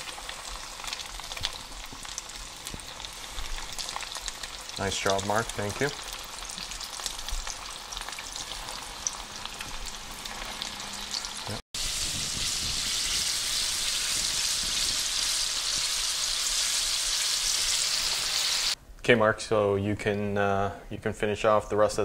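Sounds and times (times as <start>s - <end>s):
chicken sizzling in hot oil: 0.0s - 18.8s.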